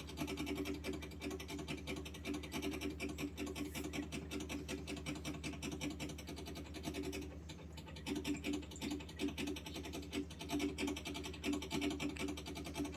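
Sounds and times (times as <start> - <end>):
water purifier pump humming: 0.0 - 12.9.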